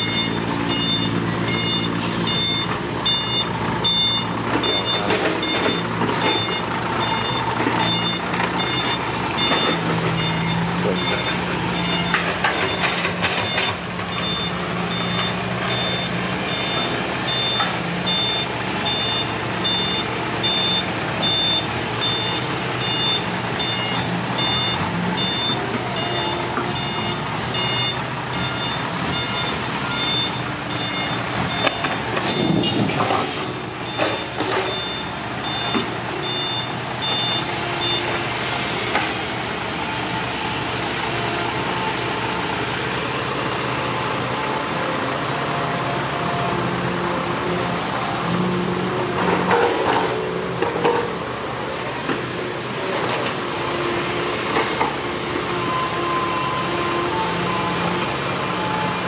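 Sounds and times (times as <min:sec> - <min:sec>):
truck reversing alarm beeping: 0:00.0 - 0:51.1, 0:52.6 - 0:59.0
diesel engine running: 0:00.0 - 0:59.0.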